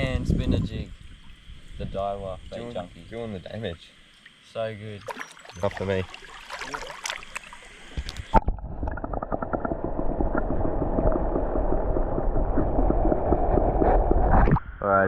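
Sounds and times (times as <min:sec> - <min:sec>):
water splashes: 0:00.8 - 0:13.6
underwater creek bubbling: 0:00.8 - 0:14.8.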